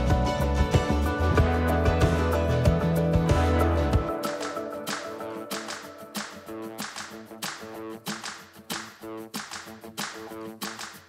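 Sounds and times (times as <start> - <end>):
background music with held notes: 0.0 - 9.2.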